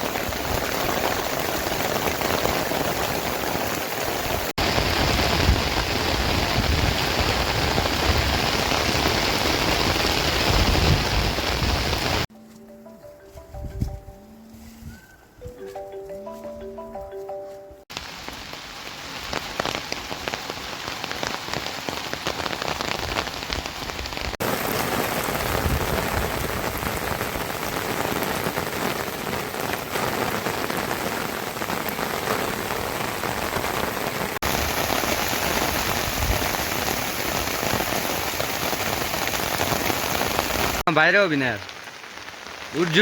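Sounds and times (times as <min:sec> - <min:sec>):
steady rain falling: 0:00.0 - 0:12.3, 0:17.9 - 0:43.0.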